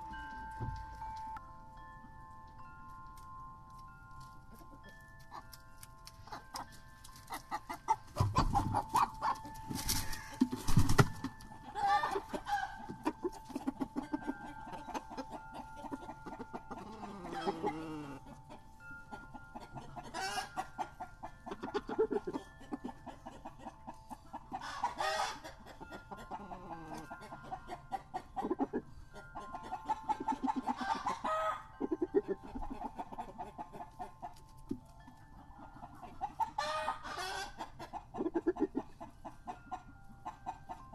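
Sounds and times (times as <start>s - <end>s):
wind chime ringing: 0.0s - 38.2s, 38.8s - 40.9s
roosters clucking and calling: 0.0s - 40.9s.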